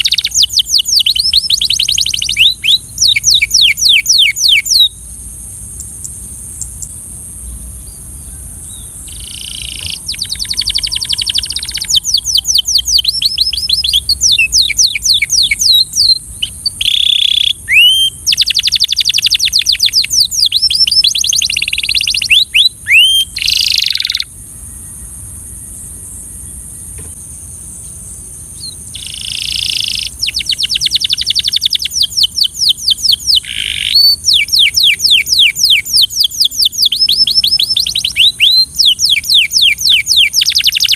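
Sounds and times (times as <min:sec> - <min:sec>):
canary singing trills: 0:00.0 - 0:27.2, 0:27.8 - 0:40.9
steady high hiss: 0:00.0 - 0:40.9.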